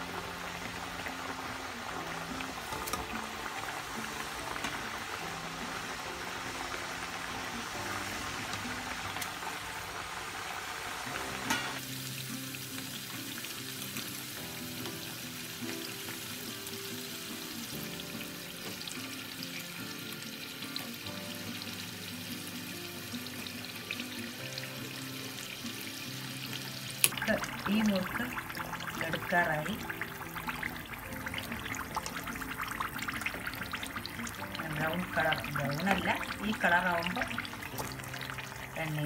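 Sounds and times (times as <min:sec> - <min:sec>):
background music: 0:00.0 - 0:39.0
food deep-frying sizzle: 0:00.0 - 0:39.0.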